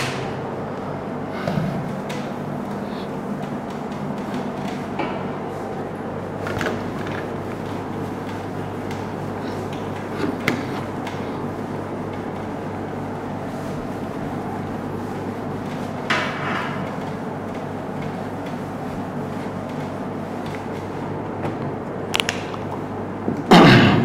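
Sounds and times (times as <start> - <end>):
steady background hum: 0.0 - 24.0
cloth wiping whiteboard: 1.2 - 21.1.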